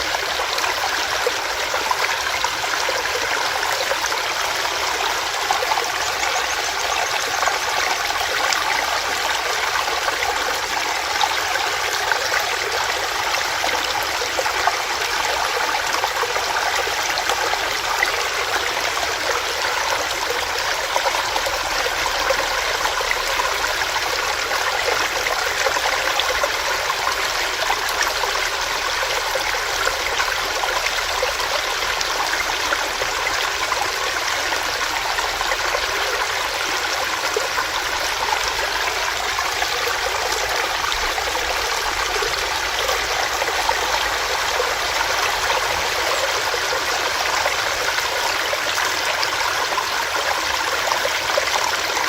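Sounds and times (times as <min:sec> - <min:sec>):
stream running over rocks: 0:00.0 - 0:52.0.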